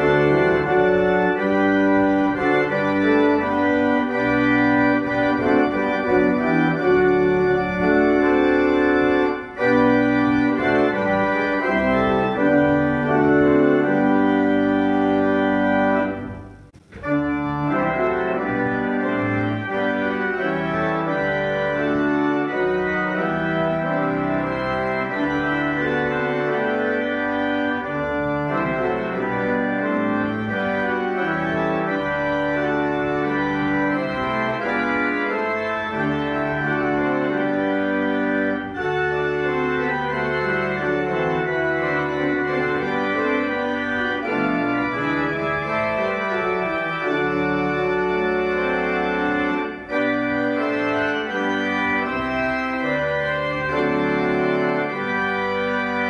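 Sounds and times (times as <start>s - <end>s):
church organ playing a hymn: 0.0s - 56.0s.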